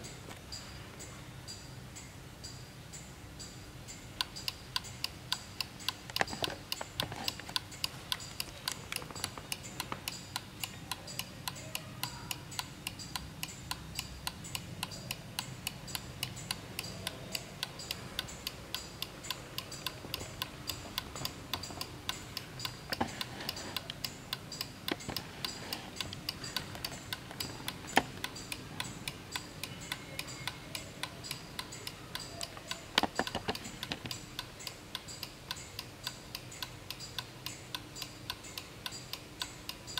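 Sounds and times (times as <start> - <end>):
wall clock ticking fast: 3.4 - 39.9.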